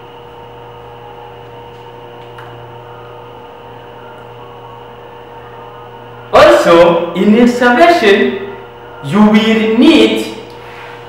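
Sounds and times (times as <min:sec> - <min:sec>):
electrical room hum: 0:00.0 - 0:11.0.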